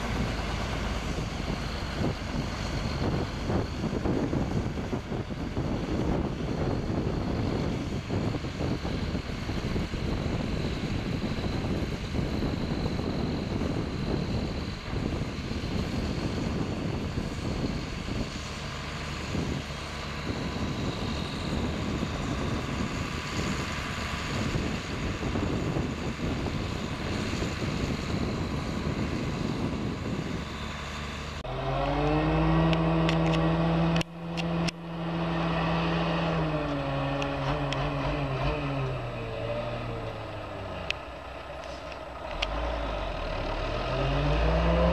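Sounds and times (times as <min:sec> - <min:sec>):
tractor diesel engine running: 0:00.0 - 0:44.9
truck diesel engine droning: 0:00.0 - 0:44.9.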